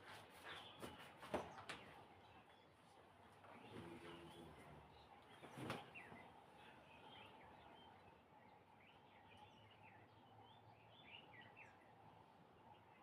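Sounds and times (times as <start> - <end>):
birds chirping: 0.4 - 13.0.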